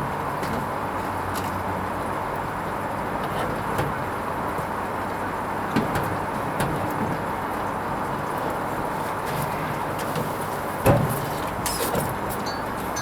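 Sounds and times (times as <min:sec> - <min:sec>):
washing machine running: 0:00.1 - 0:13.0.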